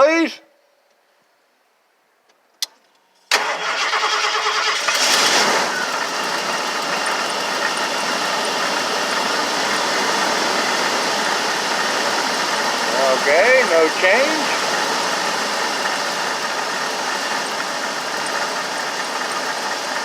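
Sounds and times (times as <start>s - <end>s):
motorhome engine starting and idling: 3.3s - 20.0s.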